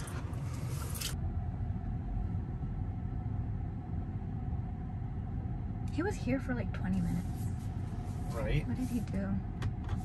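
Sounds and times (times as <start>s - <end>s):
car cabin low rumble: 0.0s - 10.0s
faint steady hum: 0.0s - 10.0s.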